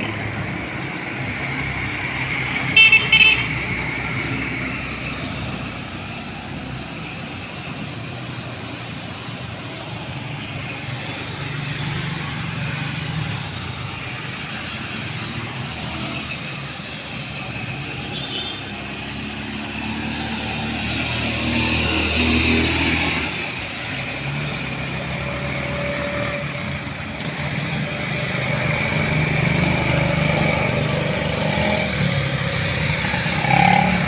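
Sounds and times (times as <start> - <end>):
cars passing: 0.0 - 34.0.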